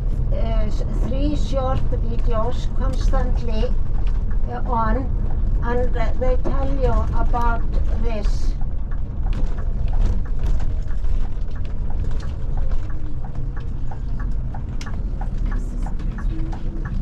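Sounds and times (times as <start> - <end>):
coach engine rumble: 0.0 - 17.0.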